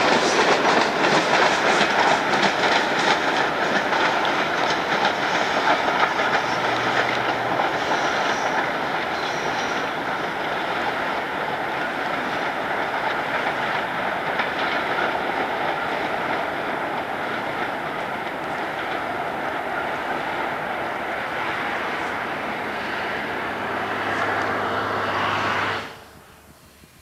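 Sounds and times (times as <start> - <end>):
train wheels rolling on track: 0.0 - 27.0.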